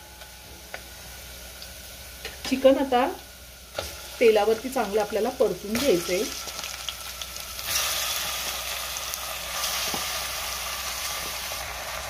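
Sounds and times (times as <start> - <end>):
chicken sizzling in hot oil: 0.7 - 12.0.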